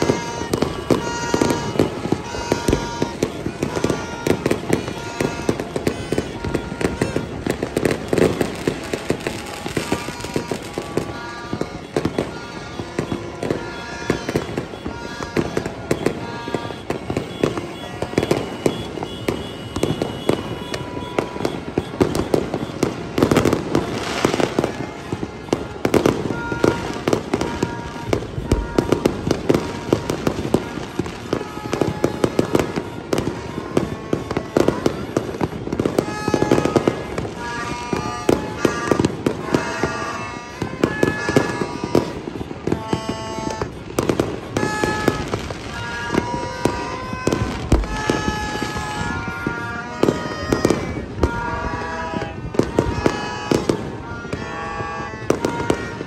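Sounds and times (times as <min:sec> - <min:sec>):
fireworks and firecrackers banging: 0:00.0 - 0:56.0.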